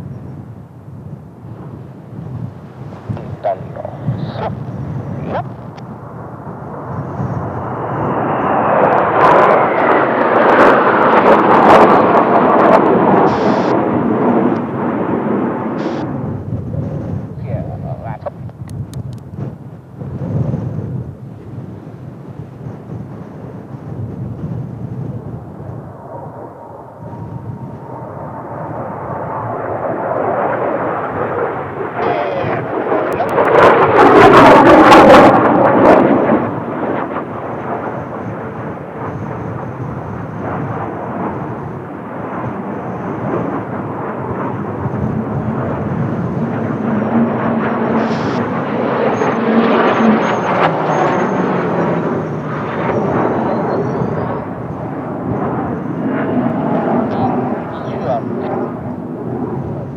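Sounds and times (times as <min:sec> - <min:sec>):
jet aircraft passing low: 0:00.0 - 0:59.9.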